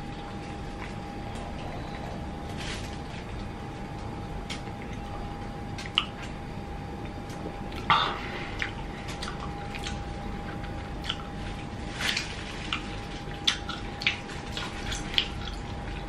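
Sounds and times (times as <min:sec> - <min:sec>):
wet chewing and lip smacking: 0:00.0 - 0:06.4, 0:07.0 - 0:16.0
faint steady hum: 0:00.0 - 0:16.0.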